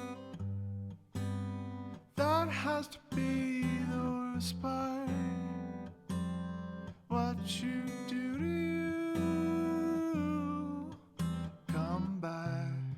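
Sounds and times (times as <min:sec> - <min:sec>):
acoustic guitar strumming chords: 0:00.0 - 0:12.9.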